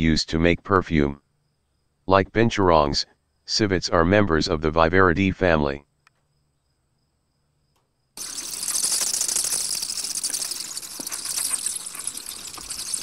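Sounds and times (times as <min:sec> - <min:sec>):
chorus of night insects: 0:00.9 - 0:13.0.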